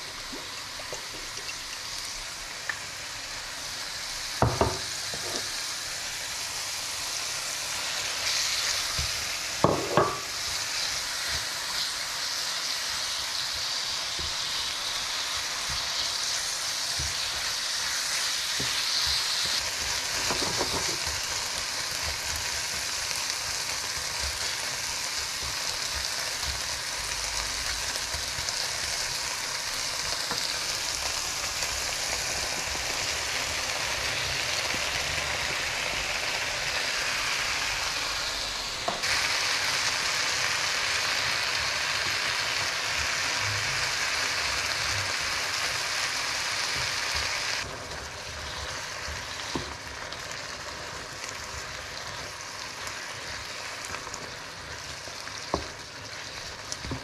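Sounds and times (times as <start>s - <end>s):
vegetables sizzling in a frying pan: 0.0s - 57.0s.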